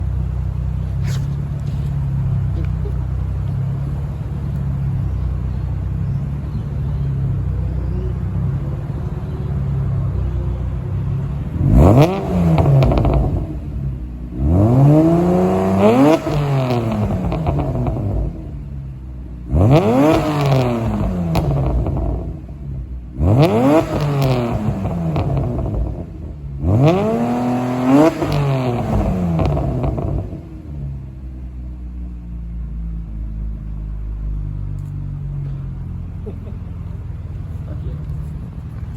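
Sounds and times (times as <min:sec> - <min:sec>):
car exhaust idling and revving: 0:00.0 - 0:38.9.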